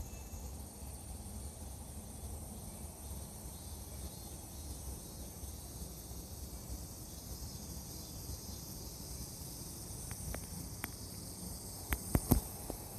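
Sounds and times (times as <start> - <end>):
high-pitched insect chorus: 0.0 - 12.9.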